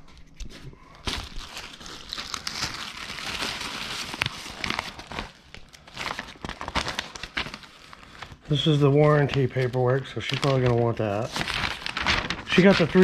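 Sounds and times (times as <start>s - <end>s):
paper sheets rustling: 0.0s - 13.0s
plastic bag crinkling: 1.0s - 13.0s.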